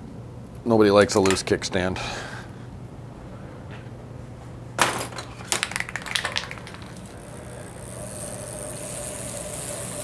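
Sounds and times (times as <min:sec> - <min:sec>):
faint whirring hiss: 0:00.0 - 0:10.0.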